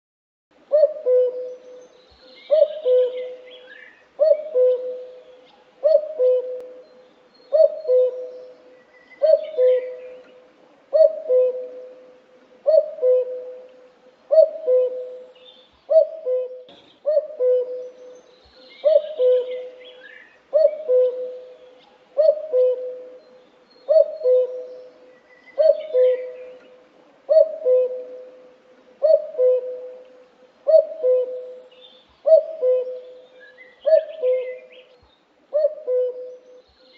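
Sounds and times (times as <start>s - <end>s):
faint bird chirps: 0.7s - 36.9s.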